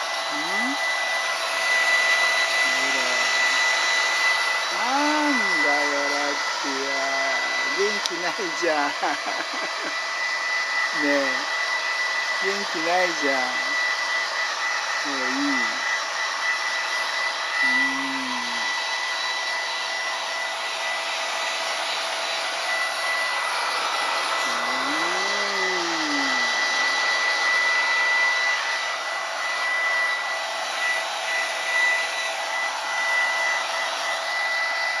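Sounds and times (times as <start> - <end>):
hair dryer blowing with whine: 0.0 - 35.0.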